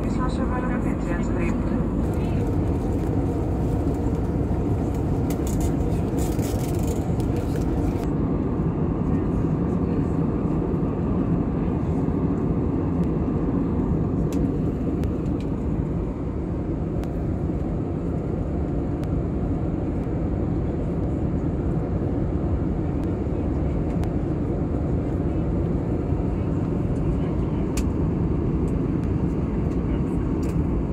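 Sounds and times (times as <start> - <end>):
airplane cabin engine rush: 0.0 - 30.9.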